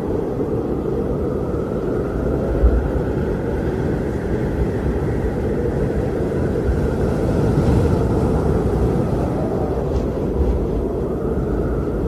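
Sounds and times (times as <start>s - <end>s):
strong wind rushing: 0.0s - 12.0s.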